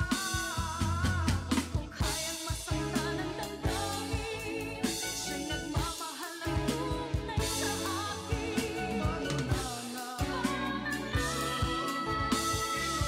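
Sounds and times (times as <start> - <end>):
electronic drums: 0.0 - 13.0
pop ballad with band: 0.0 - 13.0.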